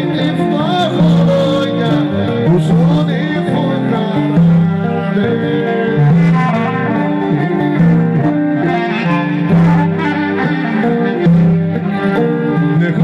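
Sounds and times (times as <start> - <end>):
instrumental folk dance music: 0.0 - 13.0.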